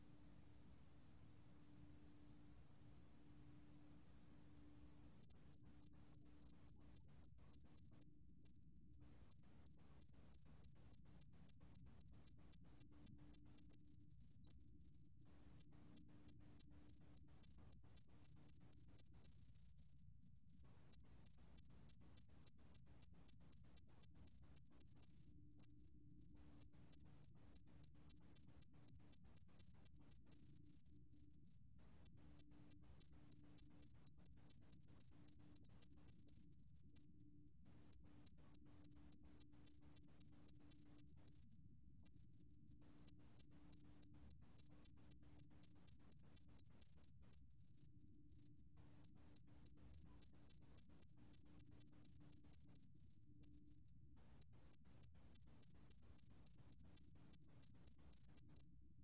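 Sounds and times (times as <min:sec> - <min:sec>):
cricket trilling: 0:05.2 - 0:59.0.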